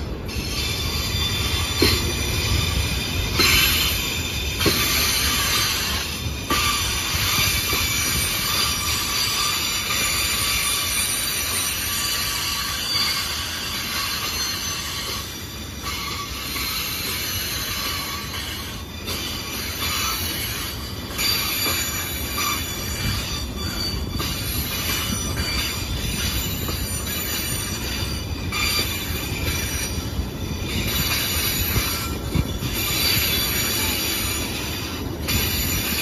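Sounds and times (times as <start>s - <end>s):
train wheels rumbling on rail: 0.0s - 36.0s
high-pitched wheel squeal: 0.3s - 36.0s.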